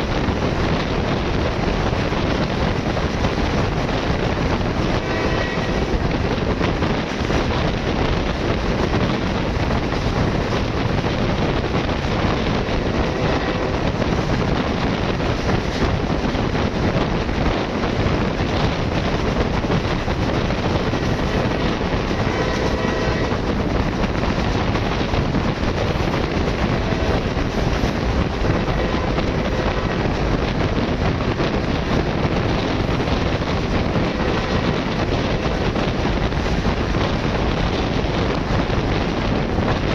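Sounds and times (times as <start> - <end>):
train wheels rumbling on rail: 0.0 - 39.9
wind buffeting microphone: 0.0 - 39.9.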